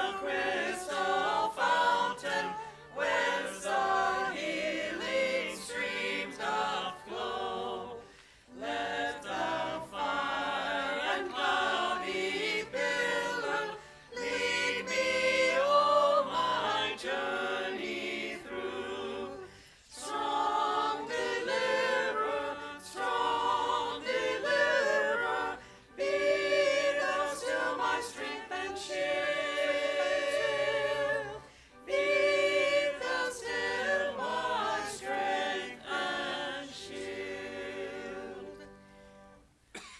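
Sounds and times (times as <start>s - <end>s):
voices singing a hymn: 0.0s - 39.9s.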